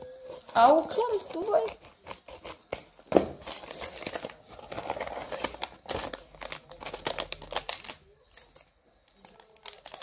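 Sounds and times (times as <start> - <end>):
plastic packaging crinkling: 0.0 - 10.0
scissors cutting plastic: 0.3 - 10.0.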